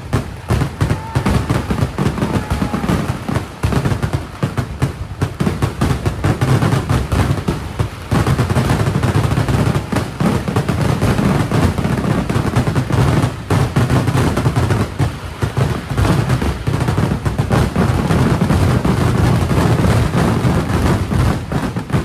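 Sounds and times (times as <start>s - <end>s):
firecracker explosions: 0.0s - 22.0s.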